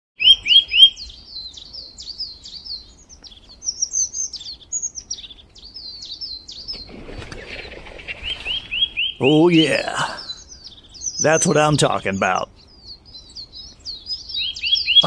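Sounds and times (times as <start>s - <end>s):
small birds chirping: 0.2s - 15.0s
rustling hiss: 0.9s - 14.7s.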